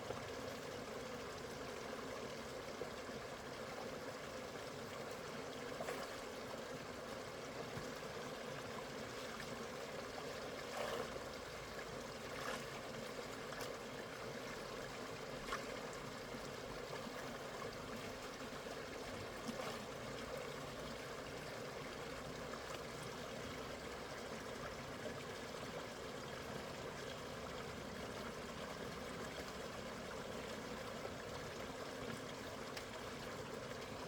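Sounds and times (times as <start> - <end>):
water running steadily: 0.0 - 34.0.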